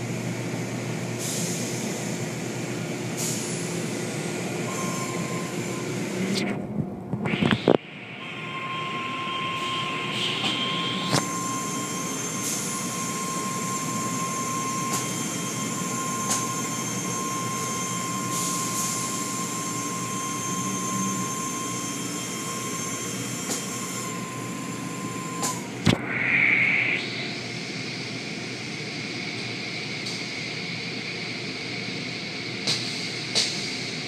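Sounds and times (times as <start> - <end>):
thin machine whine: 3.2 - 6.6, 7.2 - 34.0.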